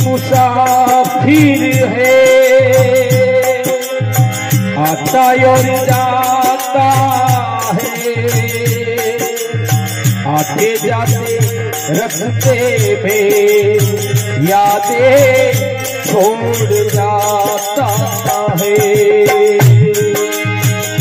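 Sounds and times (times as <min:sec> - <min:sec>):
harmonium: 0:00.0 - 0:21.0
man singing: 0:00.0 - 0:21.0
rattling percussion: 0:00.0 - 0:21.0.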